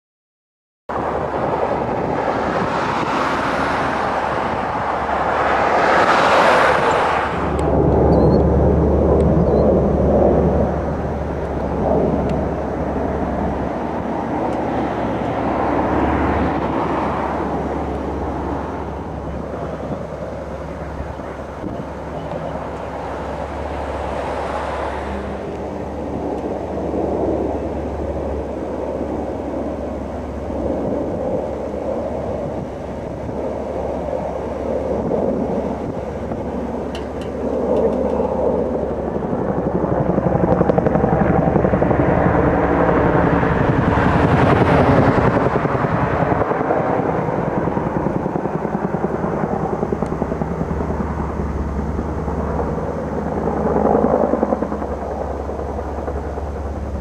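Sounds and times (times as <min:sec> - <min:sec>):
helicopter rotor: 0:00.9 - 0:57.0
jet aircraft passing overhead: 0:00.9 - 0:57.0.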